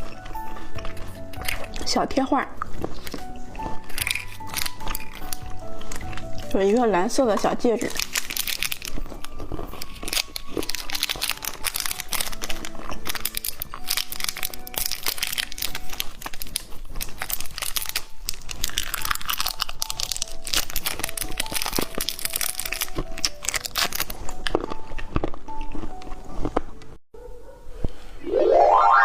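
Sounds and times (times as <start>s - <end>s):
plastic wrapper crinkling: 0.0s - 26.6s
soft background music: 0.0s - 29.0s.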